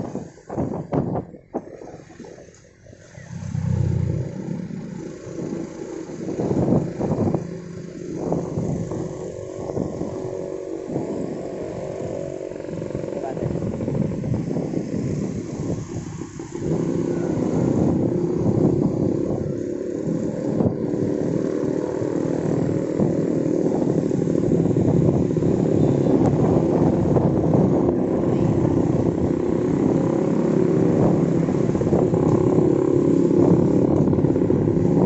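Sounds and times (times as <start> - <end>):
motor scooter running: 0.0 - 35.0.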